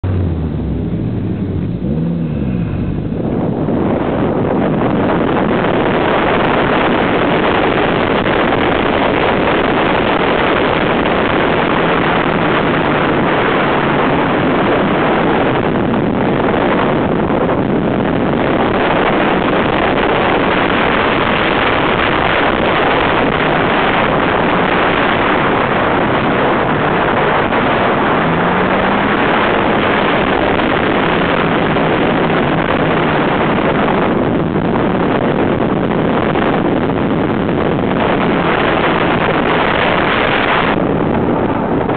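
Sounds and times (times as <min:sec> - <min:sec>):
car engine running hard: 0:00.0 - 0:41.9
wind noise on microphone: 0:00.0 - 0:41.9.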